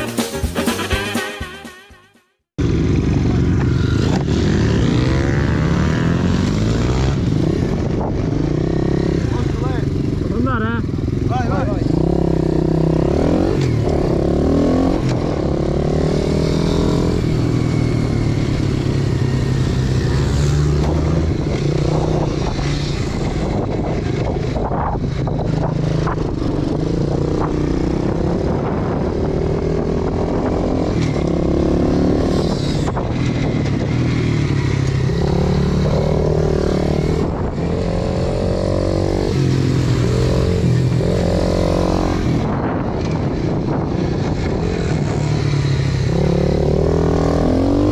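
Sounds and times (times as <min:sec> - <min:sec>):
pit bike engine revving: 0:02.6 - 0:43.3, 0:44.2 - 0:47.9.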